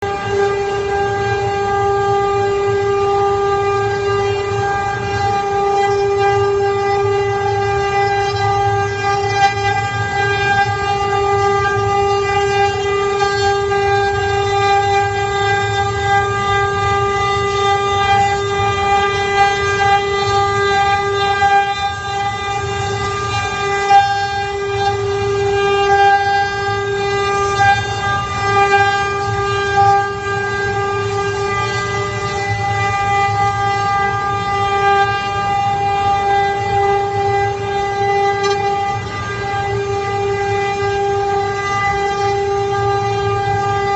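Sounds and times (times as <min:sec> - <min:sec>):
low machine rumble: 0:00.0 - 0:43.9
router spindle whine: 0:00.0 - 0:43.9.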